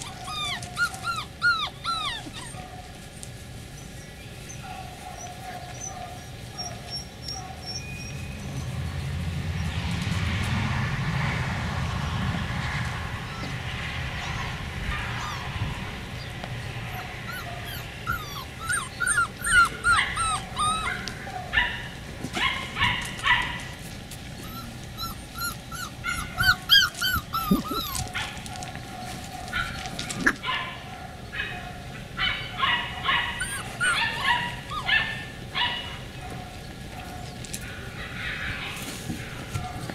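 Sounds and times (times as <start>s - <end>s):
puppies yipping and whining: 0.0s - 9.0s, 13.2s - 13.7s, 14.3s - 39.9s.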